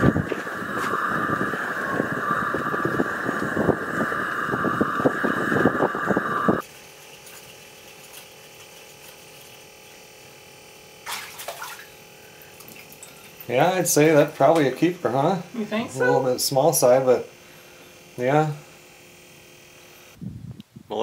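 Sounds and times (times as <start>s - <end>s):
coffee percolator hissing and bubbling: 0.0s - 10.5s, 12.0s - 15.6s, 16.2s - 20.2s.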